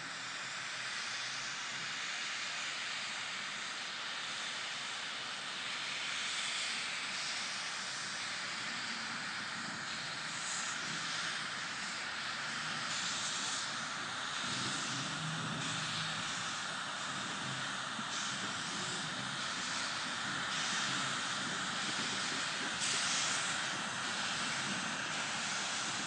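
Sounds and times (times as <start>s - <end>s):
steam locomotive hissing: 0.0s - 26.0s.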